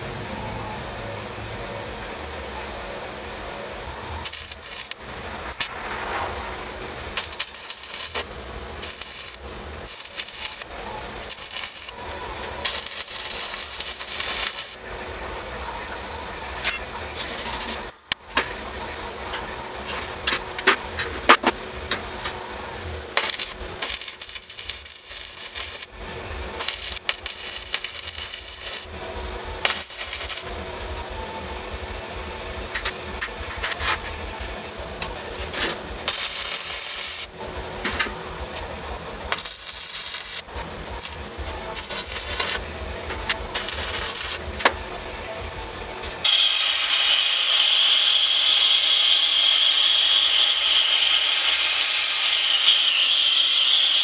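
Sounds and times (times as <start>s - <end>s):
welding arc crackling: 3.2s - 54.0s.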